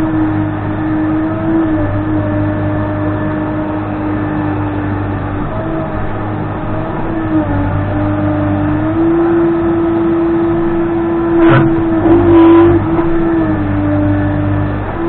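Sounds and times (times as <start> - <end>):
diesel engine whining under load: 0.0 - 15.0.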